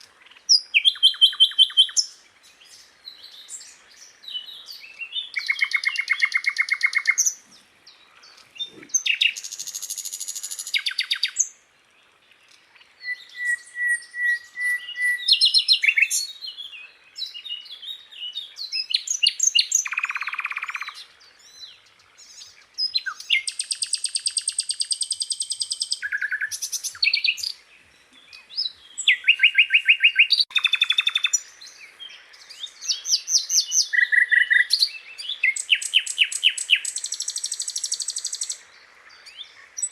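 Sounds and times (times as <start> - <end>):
bird singing trills and whistles: 0.0 - 11.6, 12.5 - 39.9.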